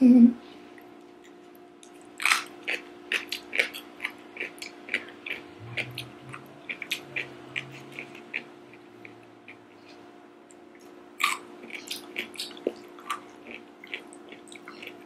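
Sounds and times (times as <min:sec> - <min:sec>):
crunchy chewing: 0:01.1 - 0:15.0.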